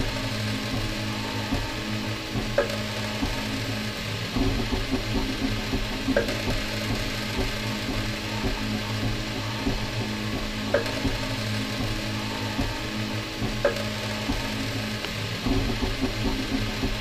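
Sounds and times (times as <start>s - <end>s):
steady hum: 0.0s - 17.0s
stepper motors buzzing and whirring: 0.0s - 17.0s.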